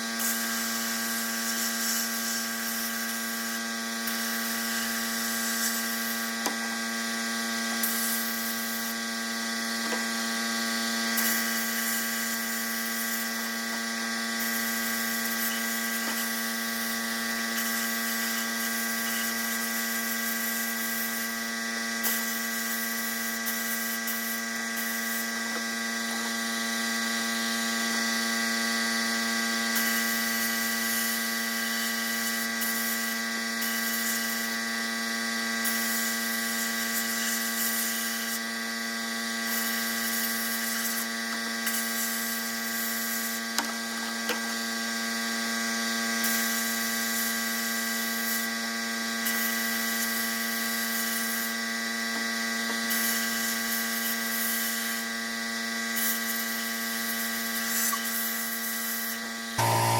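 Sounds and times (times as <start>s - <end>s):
small power tool motor running: 0.0s - 59.9s.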